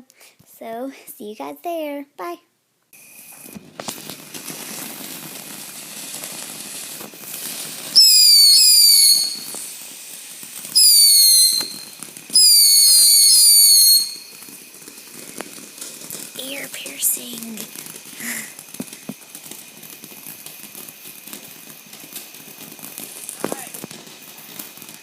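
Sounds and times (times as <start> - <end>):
firework fizzing: 3.0 - 25.0
shrill firework whistles: 3.0 - 25.0.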